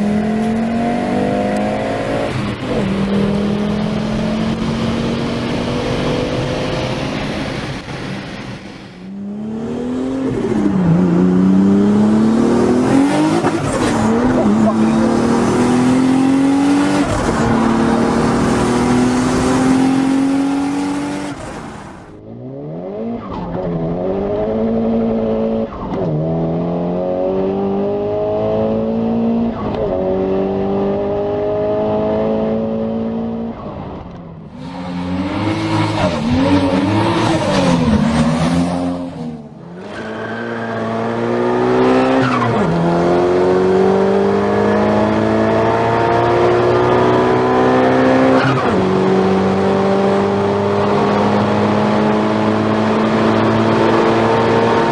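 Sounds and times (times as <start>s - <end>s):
turbocharged cars accelerating: 0.0s - 54.9s.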